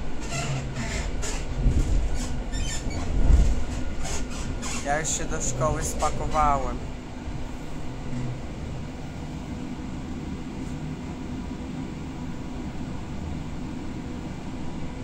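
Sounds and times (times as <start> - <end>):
train rumble inside carriage: 0.0 - 15.0.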